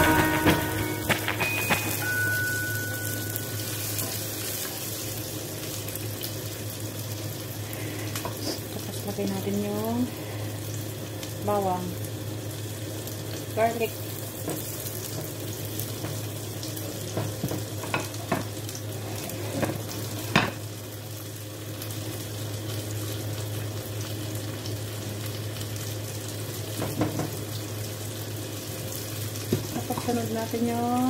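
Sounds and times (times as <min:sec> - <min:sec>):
shallots and garlic sizzling in oil: 0:00.0 - 0:31.0.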